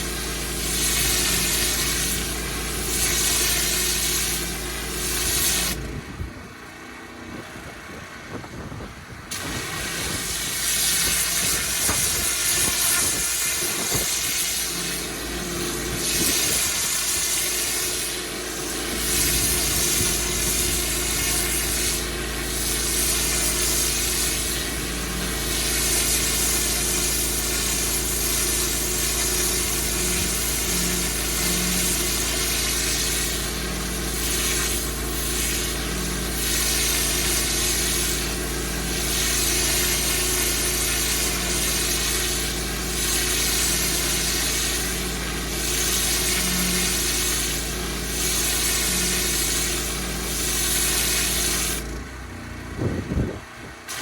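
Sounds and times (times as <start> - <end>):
water jet spraying on paving: 0.0 - 6.0, 9.3 - 52.0, 53.8 - 54.0
pressure washer engine running: 0.0 - 54.0.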